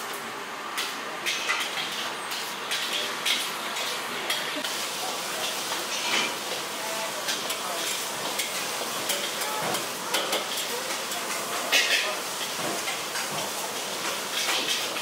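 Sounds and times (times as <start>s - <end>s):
shrimp sizzling in hot oil: 0.8s - 15.0s.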